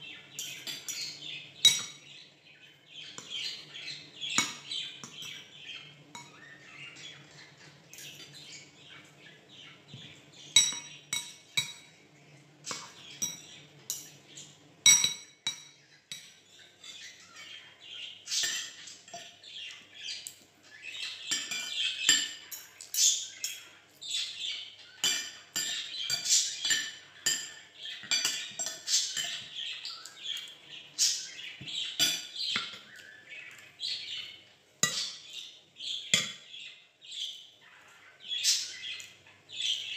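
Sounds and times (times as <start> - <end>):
bird chirping: 0.0 - 39.9
cutlery clinking on ceramic bowls: 0.3 - 2.2, 3.0 - 8.6, 9.9 - 12.0, 12.6 - 36.7.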